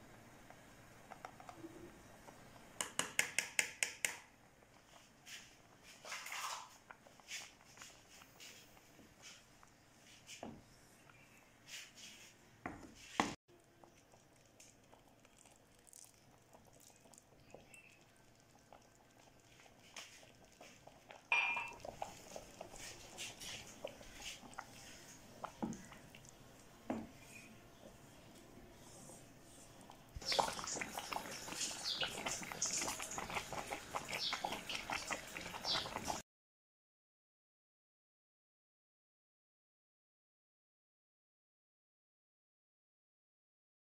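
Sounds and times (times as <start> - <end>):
pudding boiling in a metal pot: 0.0 - 12.8, 13.5 - 36.2.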